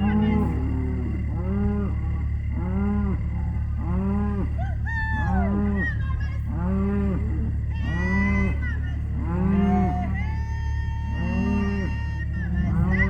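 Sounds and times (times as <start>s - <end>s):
cattle mooing: 0.0s - 13.0s
low rumble: 0.0s - 13.0s.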